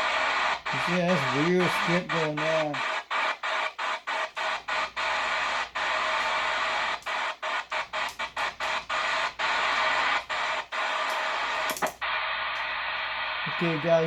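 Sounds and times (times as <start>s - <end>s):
radio receiver hiss: 0.0s - 14.0s.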